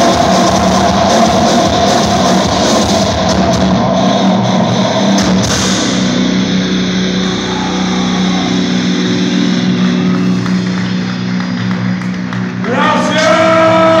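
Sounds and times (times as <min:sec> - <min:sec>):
drums: 0:00.0 - 0:14.0
loud tone rising in pitch: 0:00.0 - 0:14.0.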